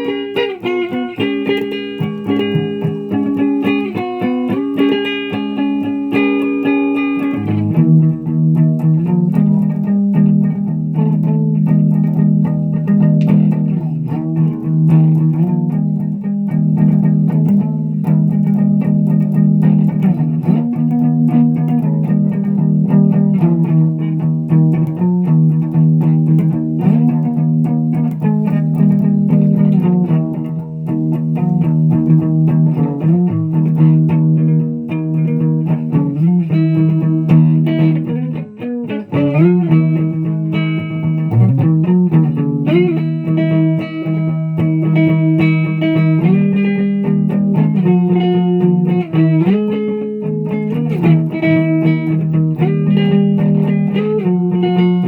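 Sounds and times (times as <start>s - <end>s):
guitar playing held notes: 0.0s - 55.0s.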